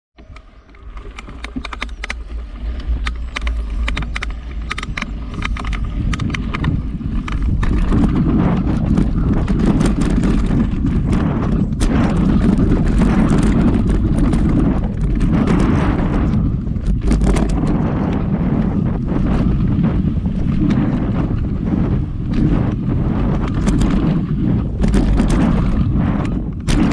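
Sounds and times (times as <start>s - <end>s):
bike clicking and rattling: 0.2s - 26.9s
wind on microphone: 0.2s - 26.9s
tyres rumbling on dirt: 0.6s - 26.9s.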